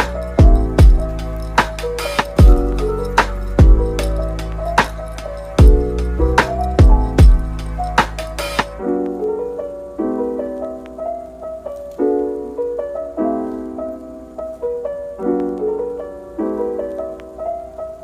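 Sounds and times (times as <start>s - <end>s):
slow solo piano piece: 0.0s - 18.0s.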